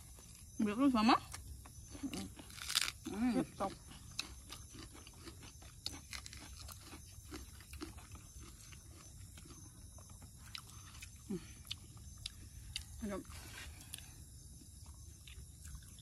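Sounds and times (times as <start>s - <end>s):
soft chewing: 1.3s - 16.0s.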